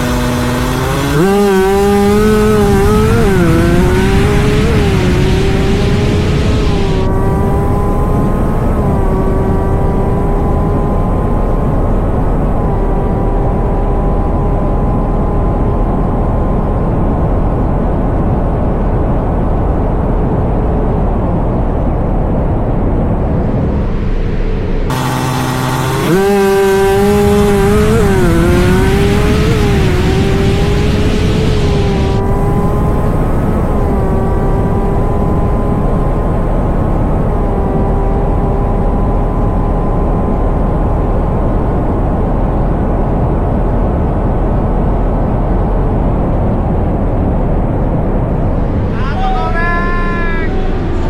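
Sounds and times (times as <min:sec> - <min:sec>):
engine whining at high revs: 0:00.0 - 0:51.0
low wind rumble: 0:00.0 - 0:51.0.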